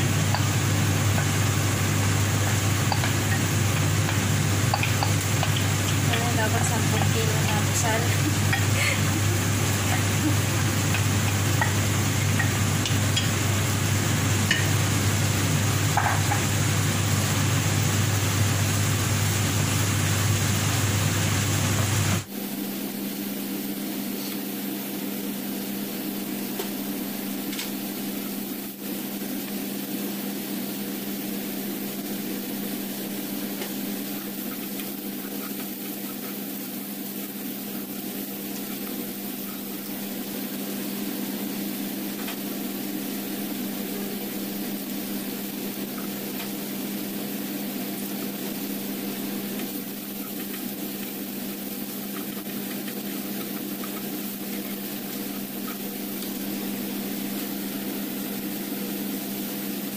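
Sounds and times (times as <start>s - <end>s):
low machine hum: 0.0s - 59.9s
onions frying in a pan: 0.0s - 59.9s.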